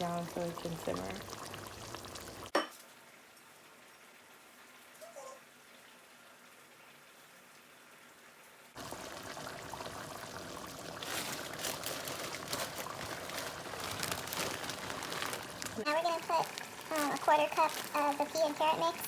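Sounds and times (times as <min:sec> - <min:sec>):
sauce bubbling and sizzling in pot: 0:00.0 - 0:19.0.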